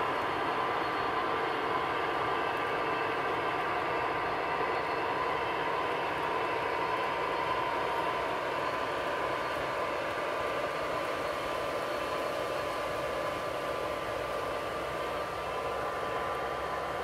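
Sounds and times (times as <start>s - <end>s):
faint steady whine: 0.0s - 17.0s
model train rolling on track: 0.0s - 17.0s.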